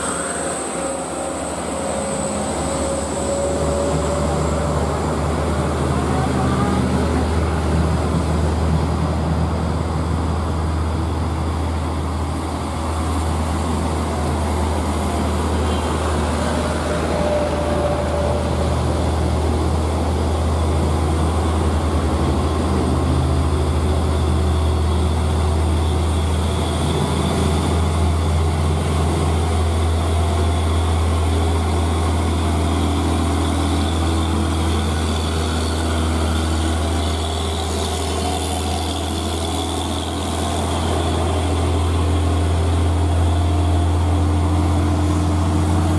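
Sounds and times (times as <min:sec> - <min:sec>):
truck diesel engine labouring: 0:00.0 - 0:45.9.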